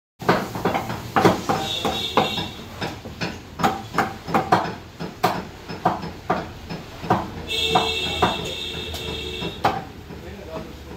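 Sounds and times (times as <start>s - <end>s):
cleaver chopping on wooden block: 0.2s - 10.2s.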